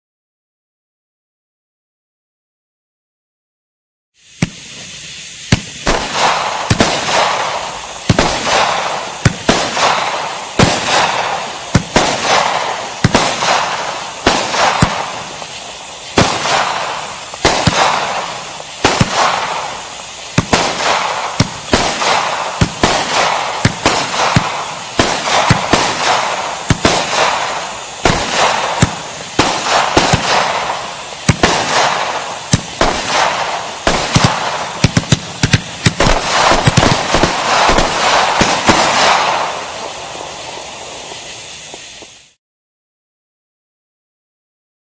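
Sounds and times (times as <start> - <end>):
firework shots reports: 4.2 - 42.4
firework stars crackling: 4.2 - 42.4.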